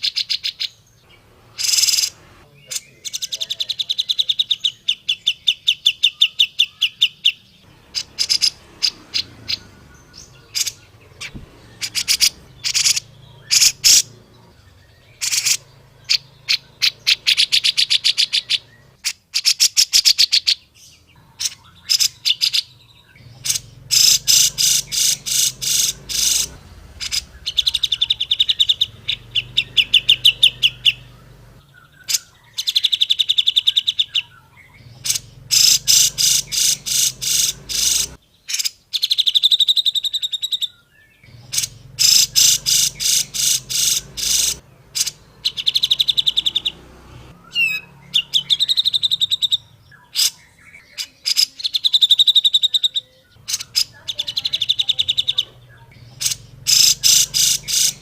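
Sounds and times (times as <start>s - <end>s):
bird chattering calls: 0.0s - 58.0s.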